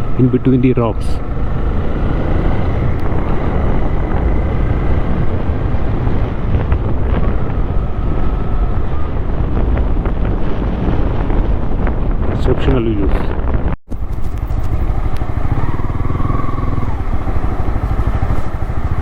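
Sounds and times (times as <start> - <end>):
motorcycle engine running: 0.0 - 11.0, 13.9 - 19.0
wind rushing over microphone: 0.0 - 19.0.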